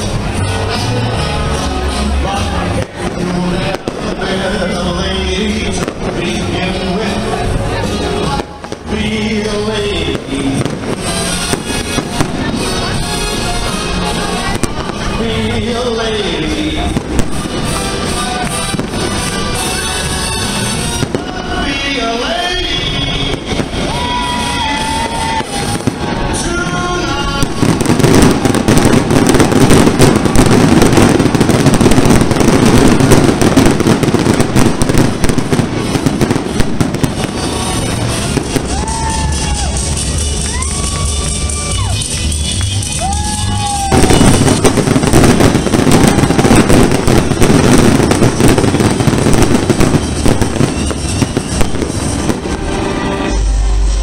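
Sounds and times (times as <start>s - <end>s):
fireworks bursting: 0.0s - 54.0s
fireworks crackle: 0.0s - 54.0s
music: 0.0s - 54.0s.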